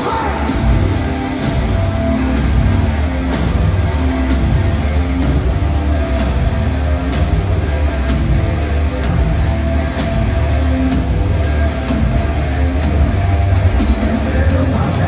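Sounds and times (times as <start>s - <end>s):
bass guitar: 0.0s - 15.0s
distorted electric guitars: 0.0s - 15.0s
drums: 0.0s - 15.0s.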